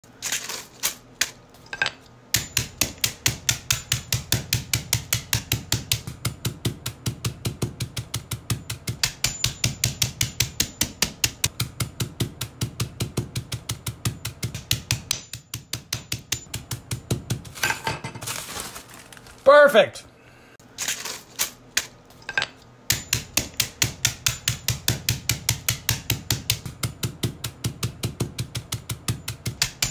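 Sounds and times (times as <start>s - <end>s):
hammer pounding coffee beans: 0.0s - 18.9s, 21.8s - 29.9s.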